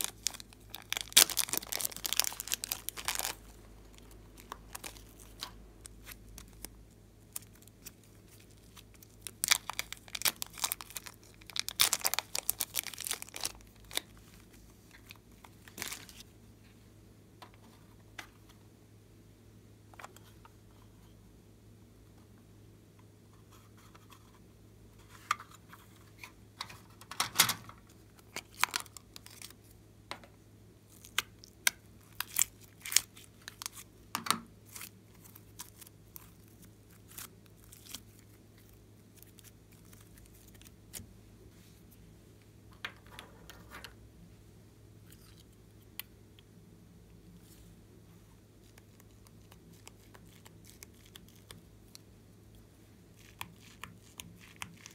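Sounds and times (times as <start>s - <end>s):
faint low hum: 0.0s - 54.9s.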